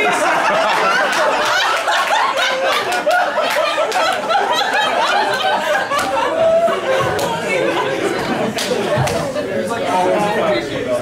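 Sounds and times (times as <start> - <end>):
audience laughing: 0.0 - 9.3.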